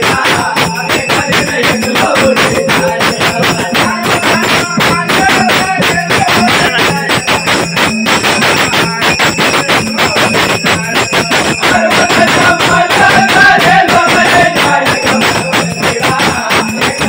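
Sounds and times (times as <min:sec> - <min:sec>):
barrel drum fast rhythm: 0:00.0 - 0:17.0
jingling small cymbals: 0:00.0 - 0:17.0.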